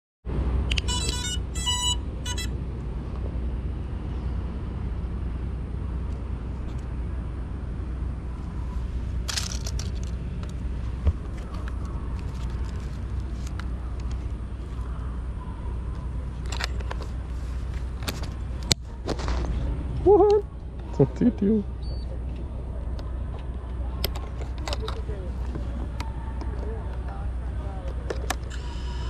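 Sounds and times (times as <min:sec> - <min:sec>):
steady low rumble: 0:00.3 - 0:29.0.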